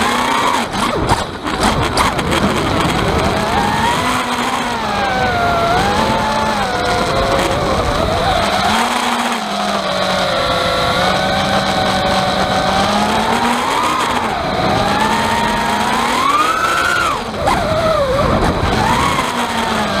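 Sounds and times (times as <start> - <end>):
drone motors whining: 0.0 - 20.0
rattling: 0.0 - 20.0.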